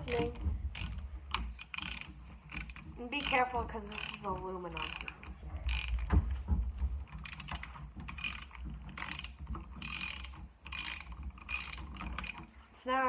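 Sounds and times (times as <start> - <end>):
ratchet wrench clicking: 0.0 - 6.1, 7.1 - 12.5.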